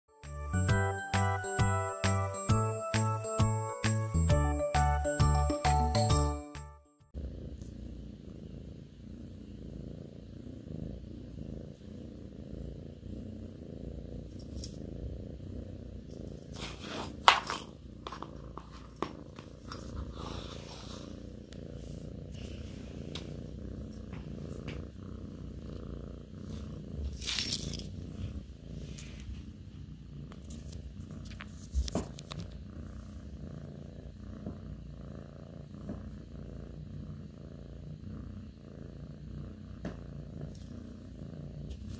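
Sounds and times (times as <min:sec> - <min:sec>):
cat purring: 0:07.0 - 0:41.9.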